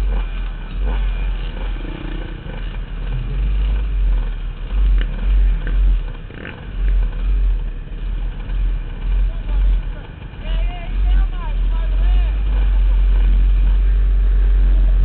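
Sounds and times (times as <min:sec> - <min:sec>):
dirt bike engines idling: 0:00.0 - 0:15.0
heavy low rumble: 0:00.0 - 0:15.0.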